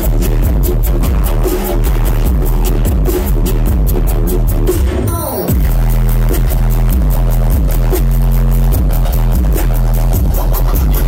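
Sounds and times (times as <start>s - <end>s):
heavy sub-bass: 0.0s - 11.0s
loud electronic bass music: 0.0s - 11.0s.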